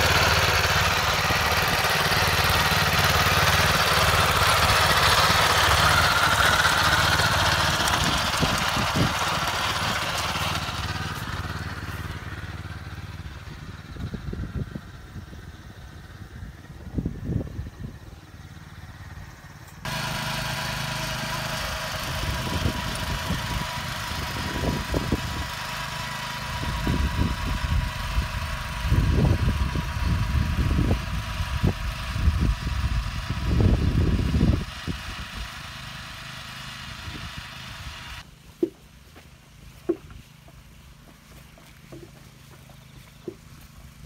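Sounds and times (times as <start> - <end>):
cultivator engine running: 0.0 - 44.0.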